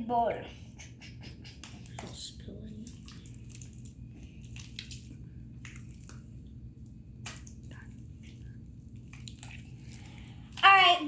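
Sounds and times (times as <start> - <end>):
slime being squished: 1.6 - 11.0.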